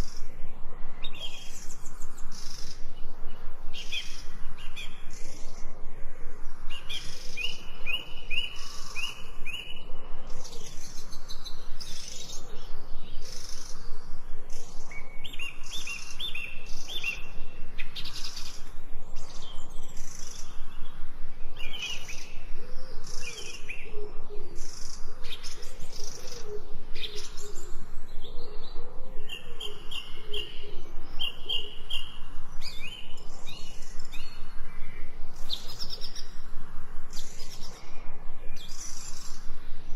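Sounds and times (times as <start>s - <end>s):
lower wavering bird calls: 0.0s - 39.9s.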